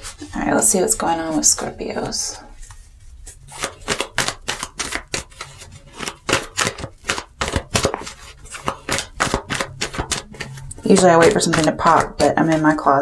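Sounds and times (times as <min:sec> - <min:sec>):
cards being shuffled: 0:01.2 - 0:13.0.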